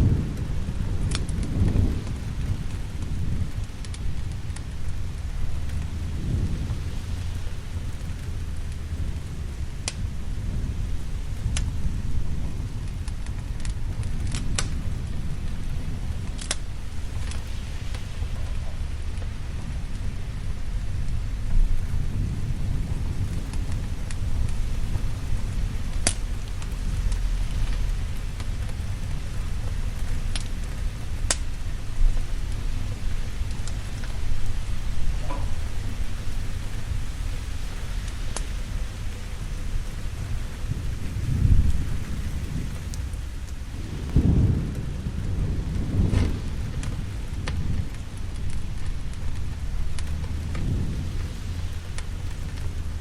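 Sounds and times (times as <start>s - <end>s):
rumble of thunder: 0.0s - 53.0s
steady rain: 0.0s - 53.0s
wood fire crackling: 0.0s - 53.0s.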